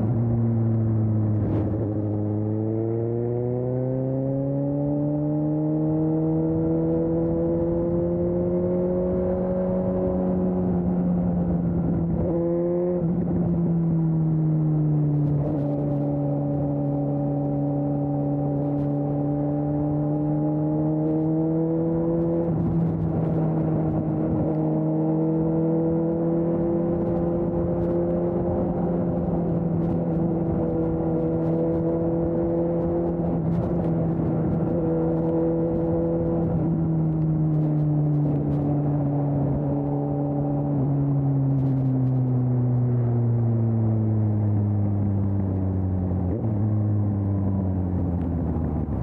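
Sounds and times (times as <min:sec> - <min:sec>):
motorcycle engine droning: 0:00.0 - 0:49.0
wind and road rumble: 0:00.0 - 0:49.0.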